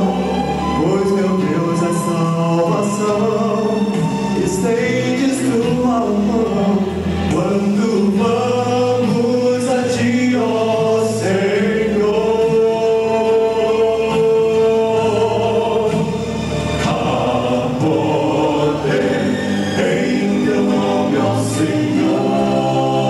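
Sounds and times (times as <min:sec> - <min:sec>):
male vocal quartet singing harmony: 0:00.0 - 0:23.0.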